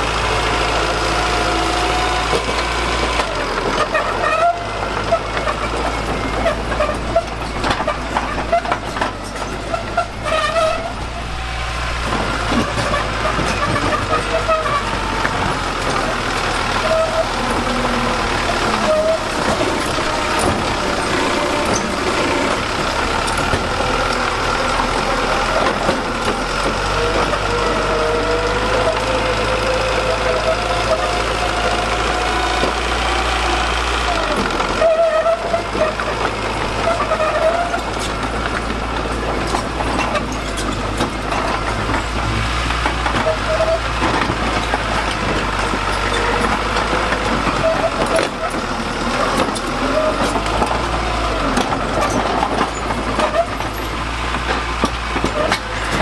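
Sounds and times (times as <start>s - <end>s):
heavy machinery engine whining: 0.0s - 56.0s.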